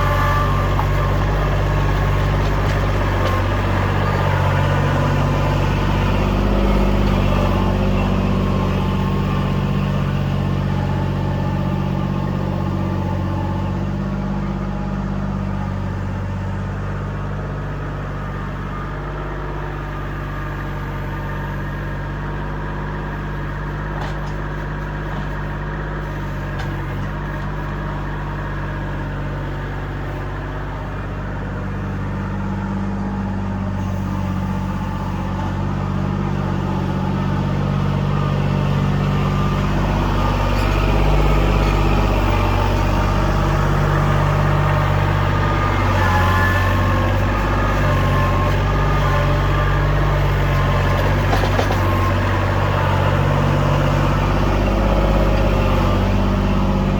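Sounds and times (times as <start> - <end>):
tractor diesel engine revving: 0.0 - 56.9.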